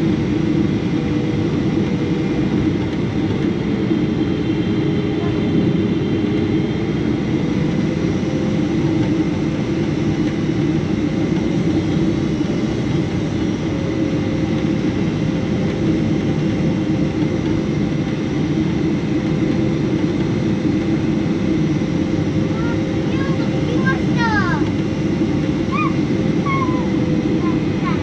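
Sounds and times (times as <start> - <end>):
jet cabin engine rumble: 0.0 - 28.0.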